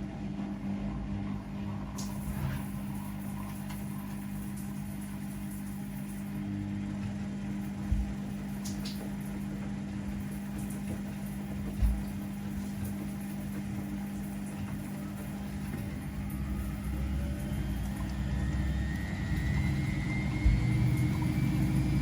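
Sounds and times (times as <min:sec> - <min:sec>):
laundry machines humming: 0:00.0 - 0:22.0.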